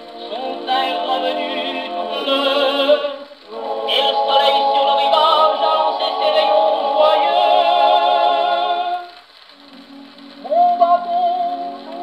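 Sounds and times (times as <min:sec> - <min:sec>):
male vocal group singing on gramophone: 0:00.0 - 0:12.0.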